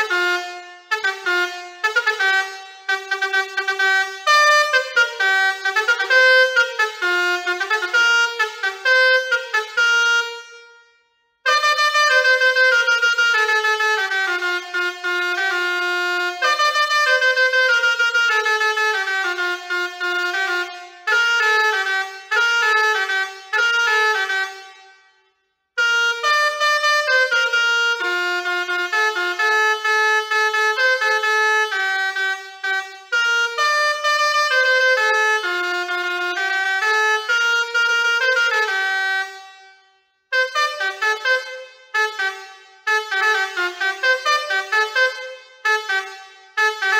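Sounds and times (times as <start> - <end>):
musical air horn playing tunes: 0.0 - 46.9.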